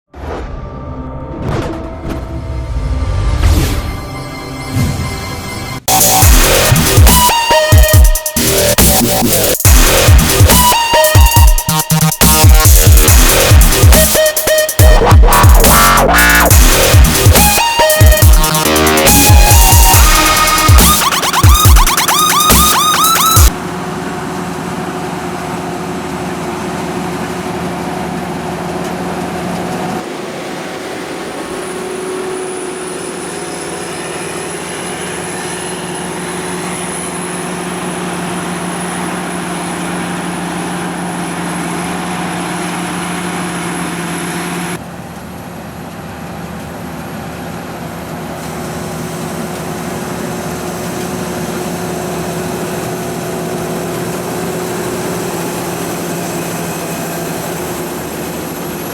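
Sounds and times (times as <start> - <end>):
combine harvester running: 2.4 - 58.9.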